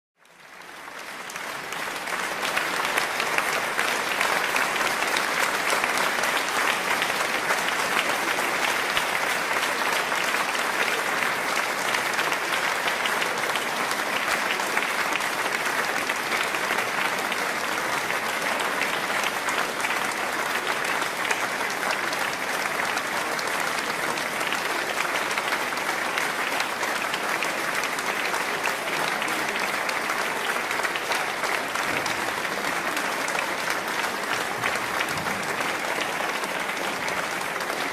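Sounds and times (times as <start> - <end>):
large crowd applauding: 0.2 - 37.9.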